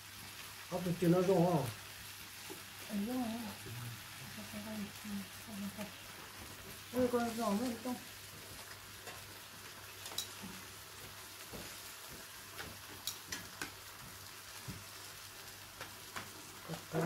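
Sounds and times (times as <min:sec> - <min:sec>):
meat sizzling on grill: 0:00.0 - 0:17.0.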